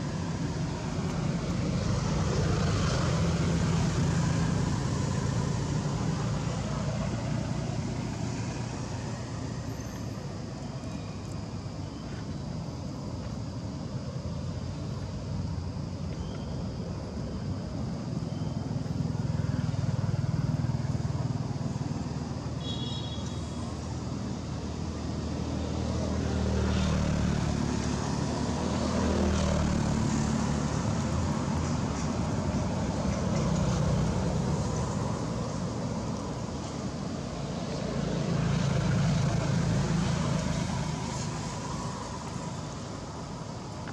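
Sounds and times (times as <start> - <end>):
vehicles passing: 0.0 - 13.8, 14.6 - 43.9.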